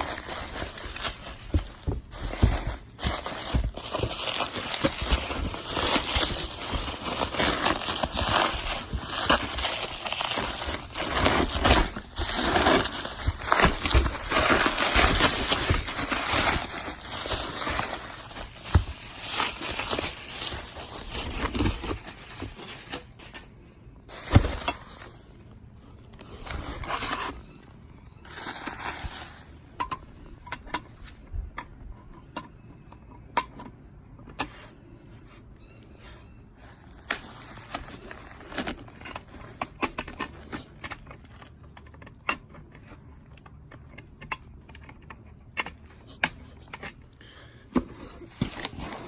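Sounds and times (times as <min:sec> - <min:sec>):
package rustling and scraping: 0:00.0 - 0:29.8, 0:34.5 - 0:43.9, 0:47.8 - 0:49.0.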